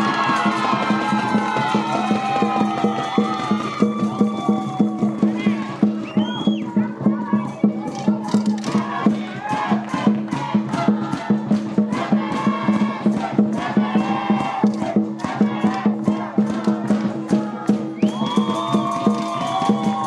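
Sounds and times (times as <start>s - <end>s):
background music with beat: 0.0s - 20.0s.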